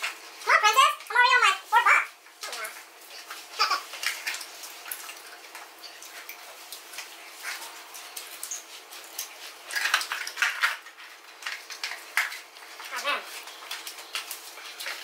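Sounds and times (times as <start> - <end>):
people chewing: 2.2 - 15.0.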